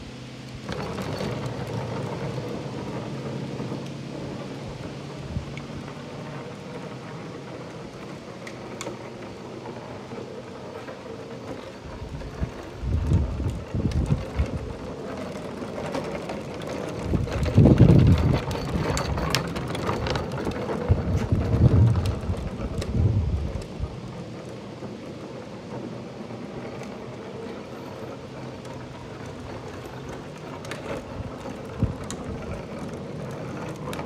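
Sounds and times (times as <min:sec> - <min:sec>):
plastic toy wheels rumbling: 0:00.5 - 0:34.0.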